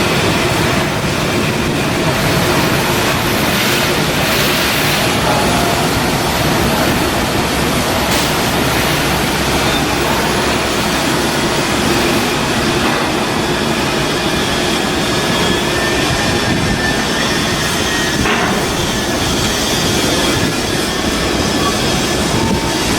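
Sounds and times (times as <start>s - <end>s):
shipyard machinery noise: 0.0s - 22.9s.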